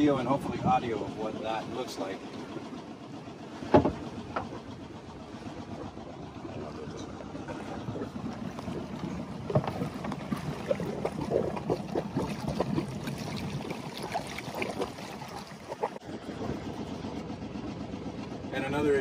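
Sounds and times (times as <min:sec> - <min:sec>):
diesel engine running: 0:00.0 - 0:14.0, 0:15.5 - 0:19.0
water splashing and gurgling: 0:00.0 - 0:18.5.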